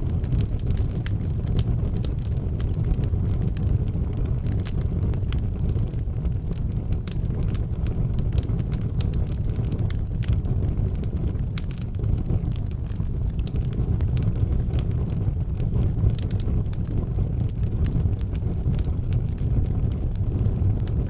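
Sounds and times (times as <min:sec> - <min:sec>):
fire crackles and pops: 0:00.0 - 0:21.0
low rumble of flames: 0:00.0 - 0:21.0.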